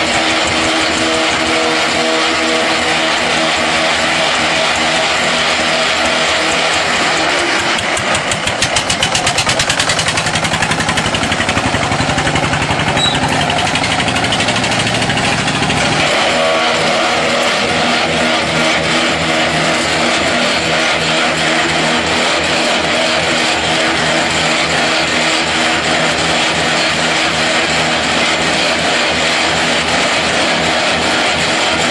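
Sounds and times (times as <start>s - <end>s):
block-making machine running: 0.0s - 31.9s.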